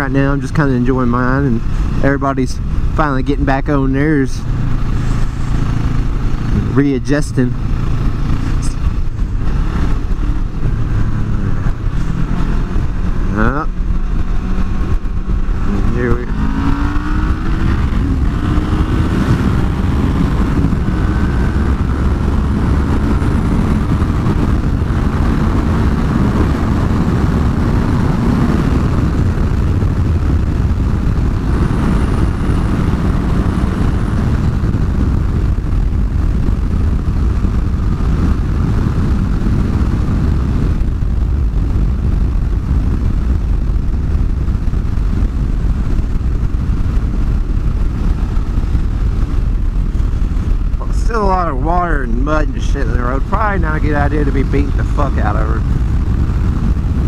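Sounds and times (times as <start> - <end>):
motorcycle engine running: 0.0 - 57.0
wind over microphone: 0.0 - 57.0.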